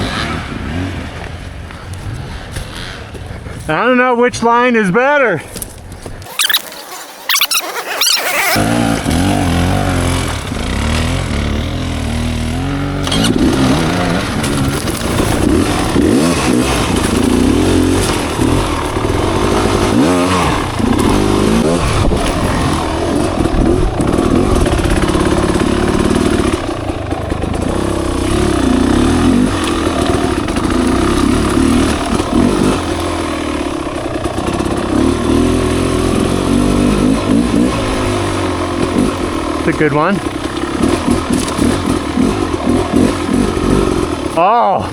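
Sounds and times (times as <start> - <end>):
motorcycle engine revving: 0.0 - 3.7, 6.2 - 44.9.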